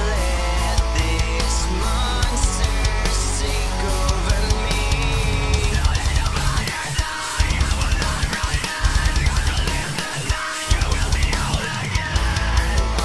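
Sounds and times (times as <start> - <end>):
rock music with drums and bass: 0.0 - 13.0.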